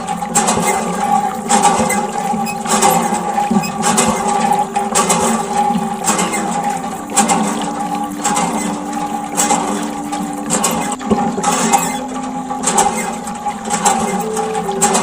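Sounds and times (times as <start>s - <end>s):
water gushing and splashing: 0.0s - 15.0s.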